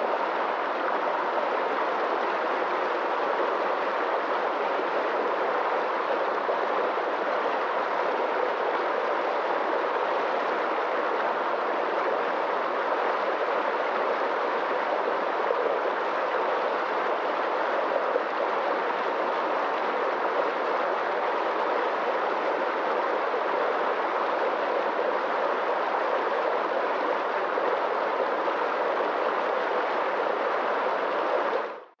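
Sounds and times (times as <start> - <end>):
stream rushing over rocks: 0.0 - 31.9.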